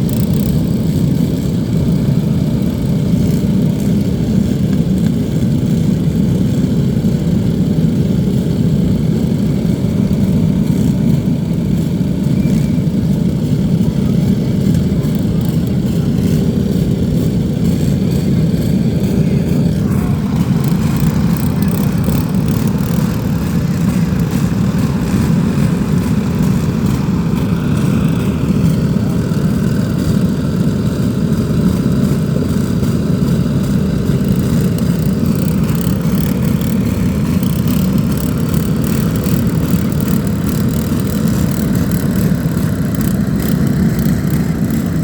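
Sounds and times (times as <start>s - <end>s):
lawn mower engines running: 0.0s - 45.0s.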